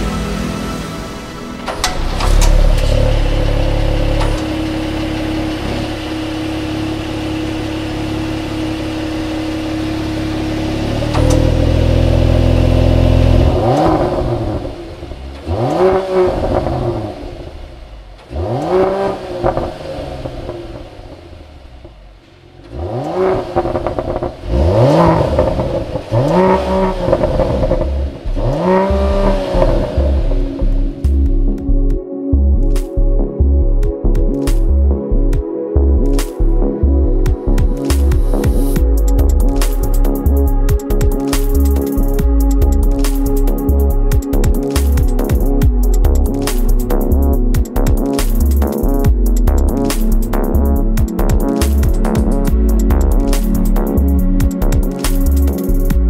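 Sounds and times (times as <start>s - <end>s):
car engine revving: 0.0s - 31.4s, 37.3s - 56.0s.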